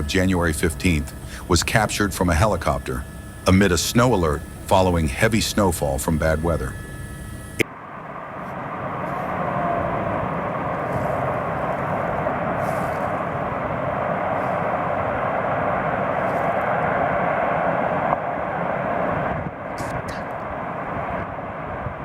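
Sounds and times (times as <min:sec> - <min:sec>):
helicopter in flight: 0:00.0 - 0:22.0.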